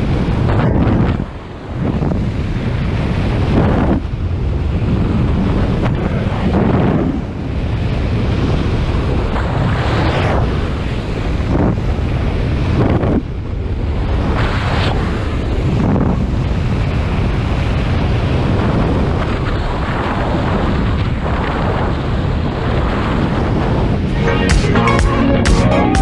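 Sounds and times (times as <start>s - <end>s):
wind buffeting microphone: 0.0s - 24.2s.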